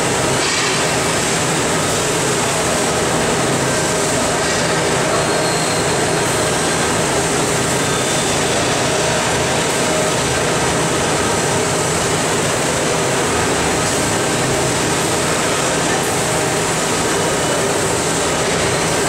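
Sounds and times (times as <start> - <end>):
milking machinery rumble and hiss: 0.0 - 19.0.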